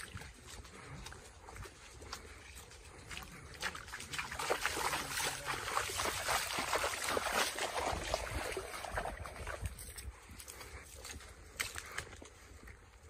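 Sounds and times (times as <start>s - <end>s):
footsteps splashing through mud: 0.0s - 13.0s.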